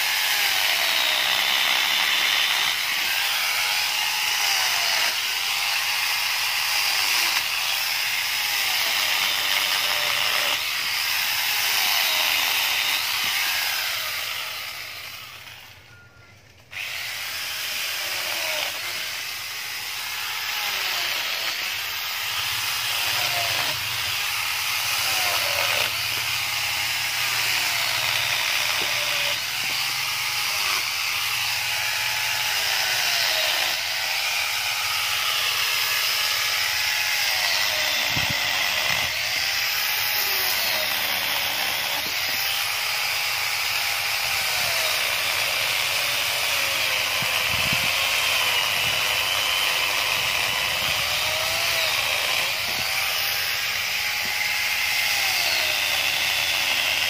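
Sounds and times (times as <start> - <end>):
angle grinder chainsaw cutting wood: 0.0 - 57.0.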